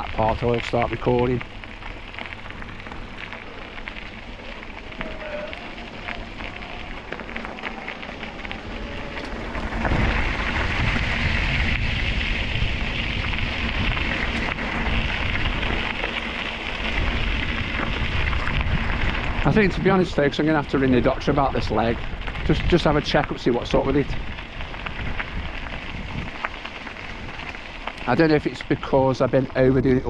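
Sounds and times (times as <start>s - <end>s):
crackling bicycle tyre noise: 0.0s - 30.0s
wind rumble on microphone: 0.0s - 30.0s.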